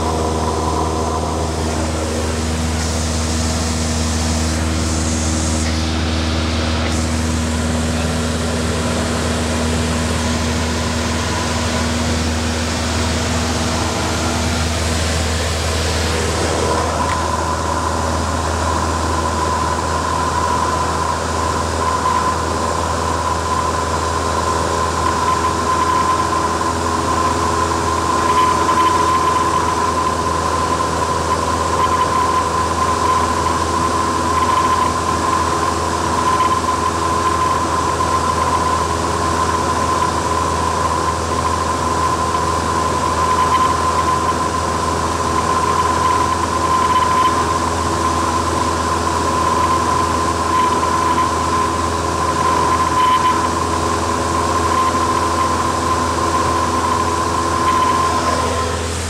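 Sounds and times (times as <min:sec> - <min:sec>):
aircraft engine droning in cabin: 0:00.0 - 0:59.0
high whine: 0:00.0 - 0:59.0.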